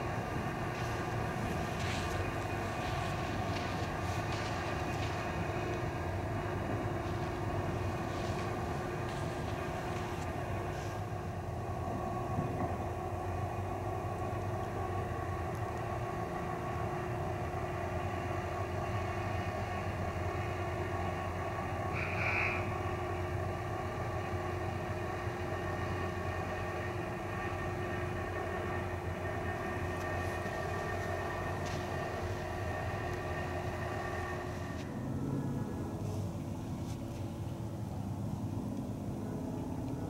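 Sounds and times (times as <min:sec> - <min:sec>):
distant diesel locomotive rumbling: 0:00.0 - 0:40.0.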